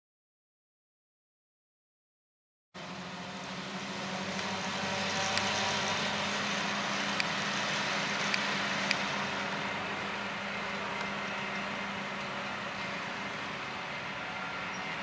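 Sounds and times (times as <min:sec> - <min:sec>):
steady engine hum: 0:02.8 - 0:15.0.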